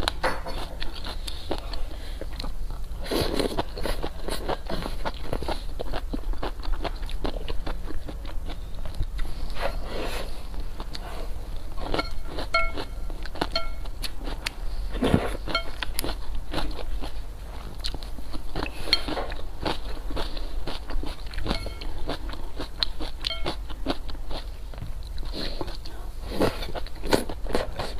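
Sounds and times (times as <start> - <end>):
person chewing: 0.0 - 27.9.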